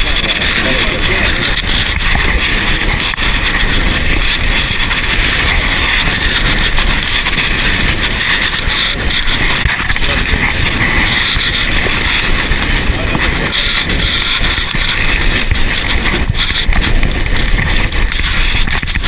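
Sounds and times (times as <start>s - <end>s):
vehicle driving on dirt road: 0.0s - 19.0s
wind buffeting microphone: 0.0s - 19.0s.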